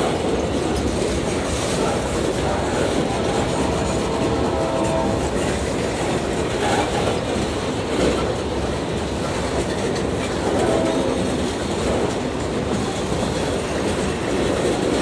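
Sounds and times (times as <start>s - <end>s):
steel wheels on rails: 0.0s - 15.0s.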